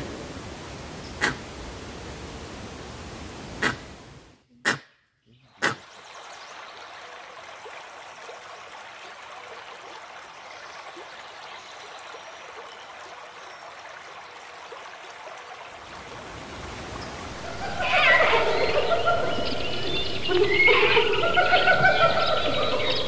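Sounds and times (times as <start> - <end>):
flowing water: 0.0 - 4.3, 5.3 - 23.0.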